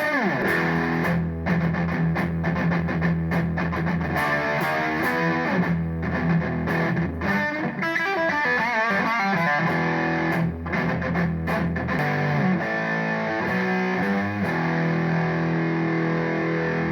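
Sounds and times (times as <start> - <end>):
distorted electric guitar: 0.0 - 16.9.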